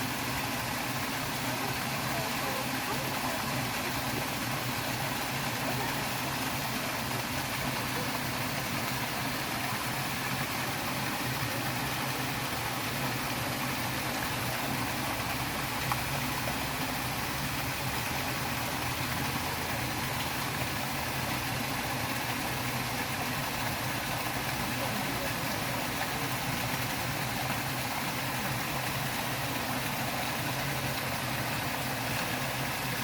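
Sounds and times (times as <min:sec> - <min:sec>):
waterfall and stream rushing: 0:00.0 - 0:33.0.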